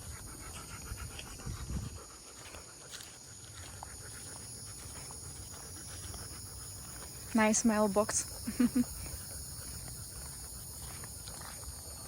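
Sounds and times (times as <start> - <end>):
dog panting: 0.0 - 12.0
faint footsteps: 0.0 - 12.0.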